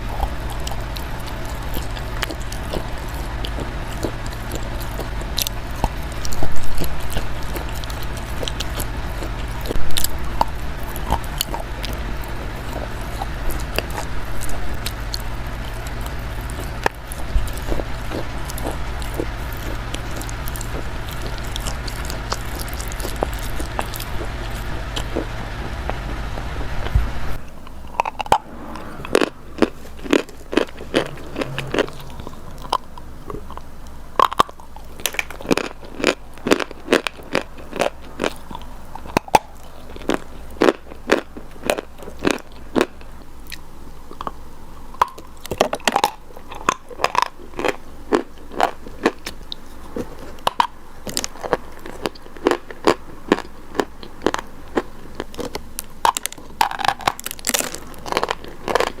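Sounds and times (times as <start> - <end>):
crunchy chalk chewing: 0.0 - 59.0
low steady hum: 0.0 - 59.0.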